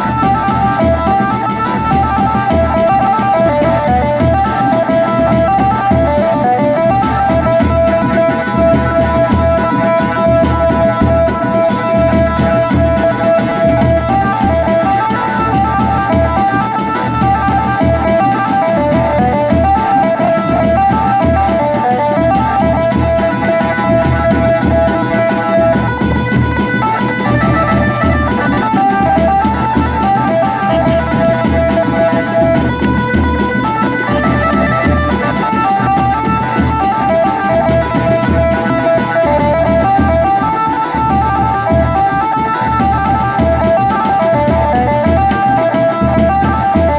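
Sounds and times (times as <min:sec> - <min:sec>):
guitar-like melody: 0:00.0 - 0:46.9
steady drum beat: 0:00.0 - 0:46.9.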